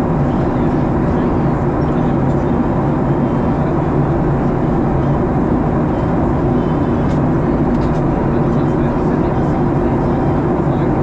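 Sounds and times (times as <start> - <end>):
airliner engines droning: 0.0 - 11.0.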